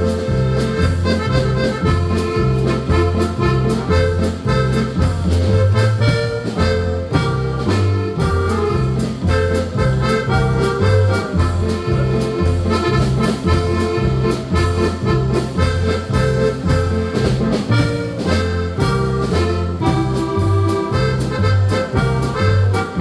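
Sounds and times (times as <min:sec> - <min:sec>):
accordion melody: 0:00.0 - 0:23.0
oom-pah bass: 0:00.0 - 0:23.0
steady drum beat: 0:00.0 - 0:23.0.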